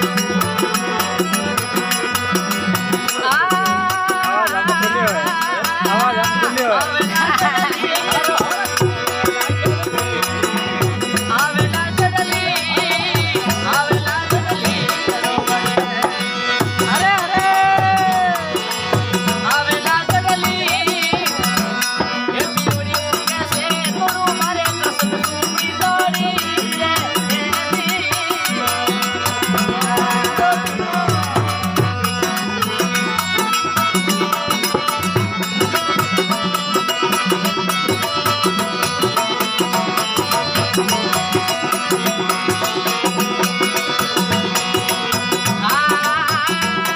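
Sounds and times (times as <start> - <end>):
hand drum rhythm: 0.0 - 46.9
jangling rattle percussion: 0.0 - 46.9.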